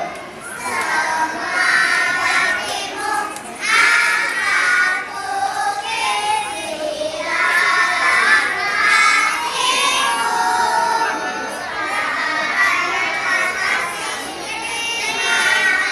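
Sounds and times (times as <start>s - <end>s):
children singing together: 0.0s - 15.9s.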